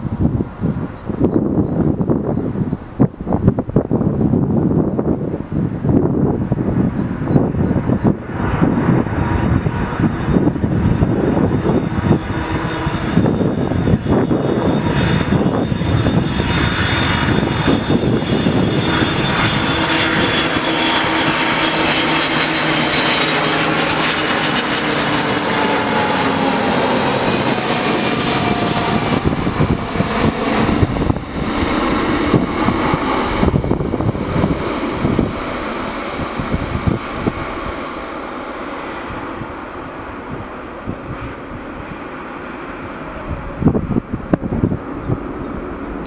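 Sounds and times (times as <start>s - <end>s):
jet engines with fan whine: 0.0s - 46.0s.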